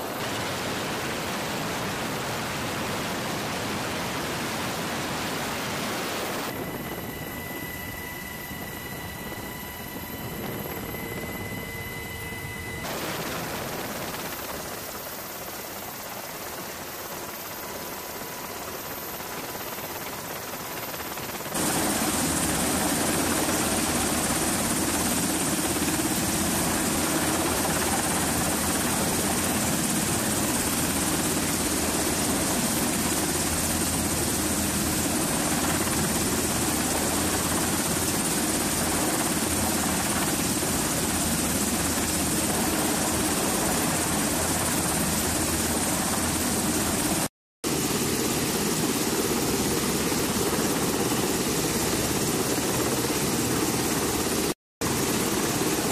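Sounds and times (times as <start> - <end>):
helicopter running: 0.0 - 55.9.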